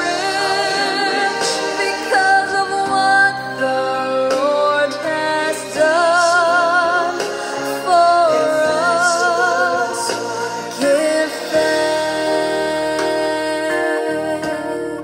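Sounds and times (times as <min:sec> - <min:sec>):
slow song with vibrato singing: 0:00.0 - 0:15.0.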